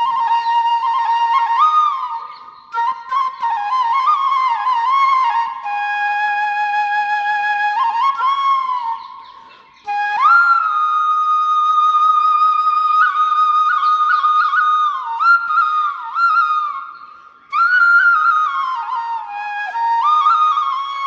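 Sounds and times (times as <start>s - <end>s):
solo flute melody: 0.0s - 21.0s.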